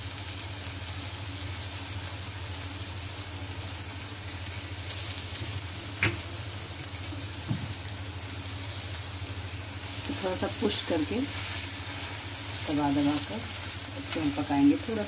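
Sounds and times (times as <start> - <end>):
batter sizzling in oil: 0.0 - 15.0.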